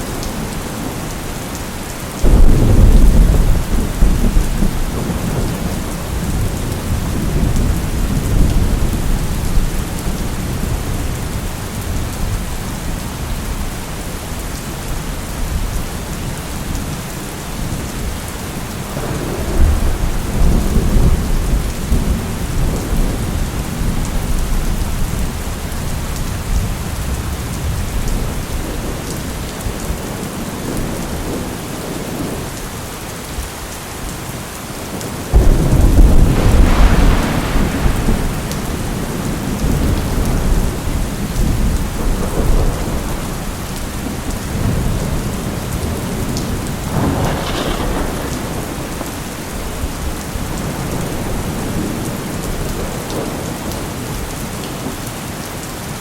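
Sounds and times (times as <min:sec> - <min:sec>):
steady rain falling: 0:00.0 - 0:56.0
thunder rumbling: 0:02.2 - 0:13.6, 0:17.6 - 0:32.4, 0:35.0 - 0:54.4.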